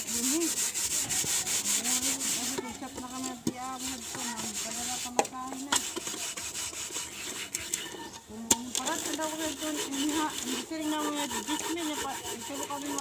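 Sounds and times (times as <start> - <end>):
scrubbing a metal pot: 0.0 - 13.0.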